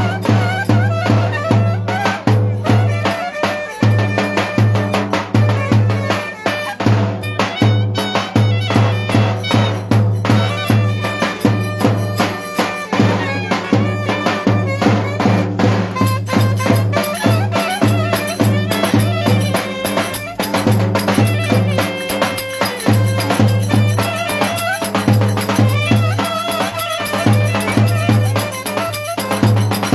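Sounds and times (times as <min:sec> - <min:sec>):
driving drum beat: 0:00.0 - 0:29.9
reedy wind instrument melody: 0:00.0 - 0:29.9.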